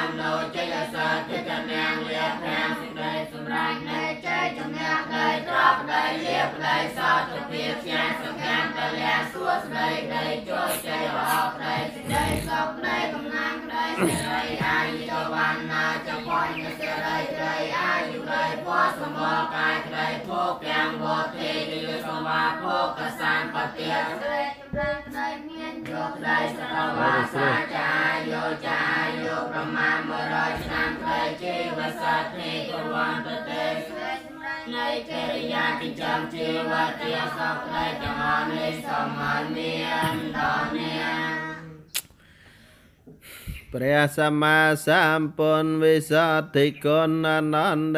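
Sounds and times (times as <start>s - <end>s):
many voices chanting: 0.0s - 41.9s.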